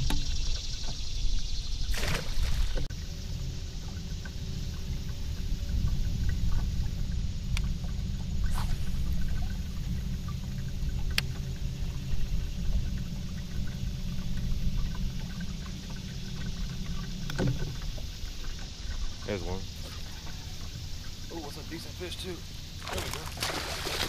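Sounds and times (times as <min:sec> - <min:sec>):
faint steady hum: 0:00.0 - 0:24.0
water and wind rumble: 0:00.0 - 0:24.0.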